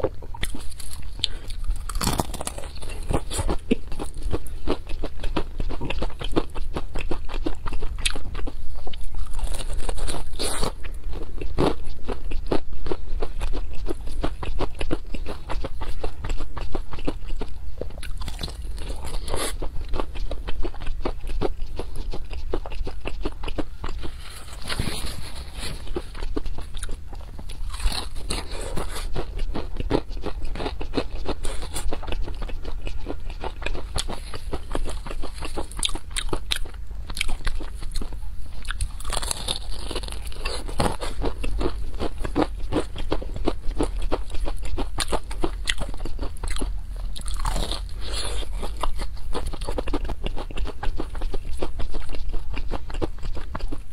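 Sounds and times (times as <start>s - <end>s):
crunching of fried chicken: 0.0s - 53.9s.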